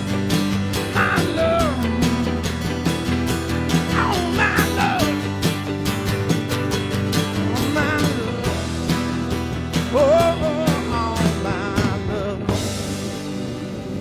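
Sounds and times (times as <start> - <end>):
bass and guitar chords: 0.0 - 14.0
drums keeping a steady beat: 0.0 - 14.0
lead guitar line with vibrato: 0.0 - 14.0.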